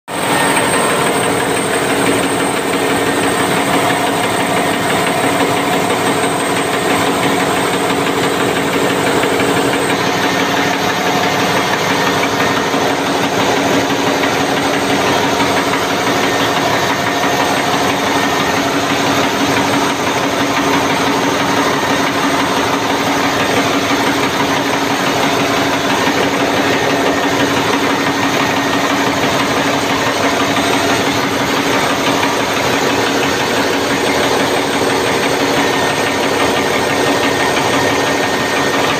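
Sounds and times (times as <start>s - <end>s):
diesel engine clattering: 0.1s - 38.9s.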